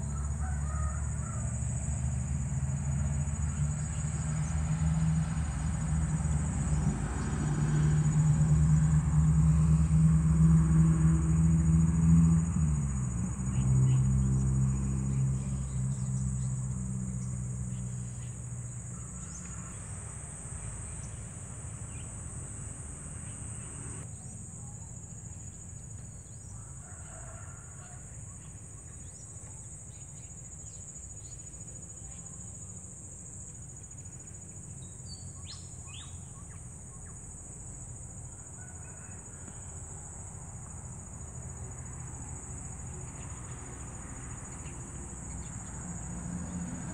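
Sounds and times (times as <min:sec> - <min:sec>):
engine low hum: 0:00.0 - 0:26.9, 0:28.3 - 0:46.9
insects trilling: 0:00.0 - 0:46.9.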